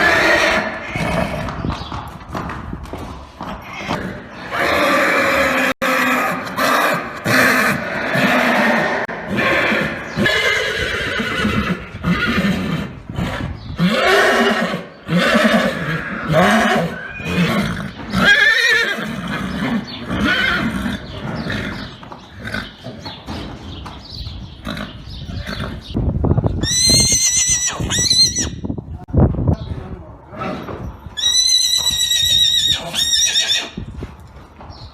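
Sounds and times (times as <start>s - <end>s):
horses neighing: 0.0s - 1.9s, 3.2s - 23.4s, 24.1s - 26.0s, 26.6s - 28.6s, 30.3s - 33.8s.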